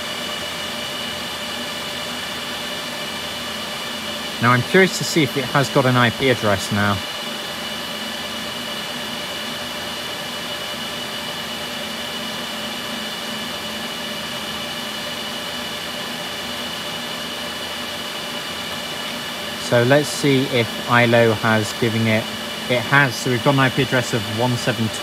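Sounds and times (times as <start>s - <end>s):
server cooling fans whirring: 0.0s - 25.0s.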